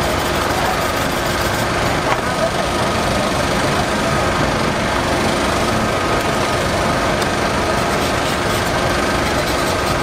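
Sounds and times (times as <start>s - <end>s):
loud mechanical drone: 0.0s - 10.0s.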